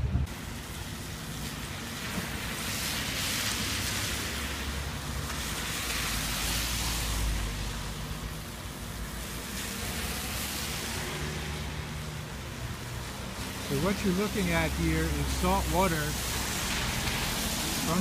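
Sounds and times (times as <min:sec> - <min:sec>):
low rumble of traffic: 0:00.0 - 0:18.0
car tyres hissing through water: 0:00.1 - 0:18.0.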